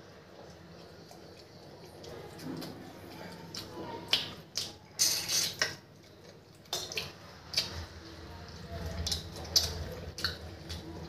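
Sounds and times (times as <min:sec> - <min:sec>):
man chewing food: 0:00.0 - 0:11.0.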